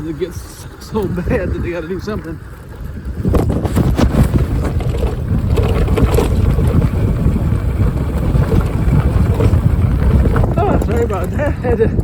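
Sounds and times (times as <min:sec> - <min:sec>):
bike rattling on gravel: 0:00.0 - 0:12.0
wind buffeting microphone: 0:00.0 - 0:12.0.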